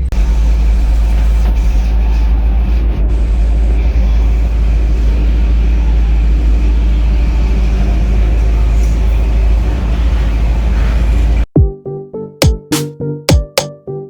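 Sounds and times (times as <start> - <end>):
truck rumbling from inside cab: 0.0 - 11.5.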